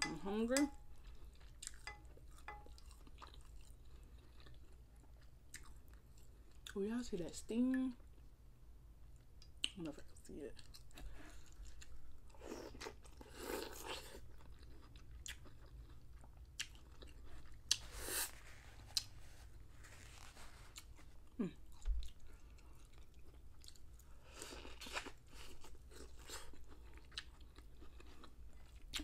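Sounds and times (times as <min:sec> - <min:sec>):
person chewing corn on the cob: 0:00.9 - 0:06.8, 0:10.6 - 0:19.5, 0:20.3 - 0:29.0.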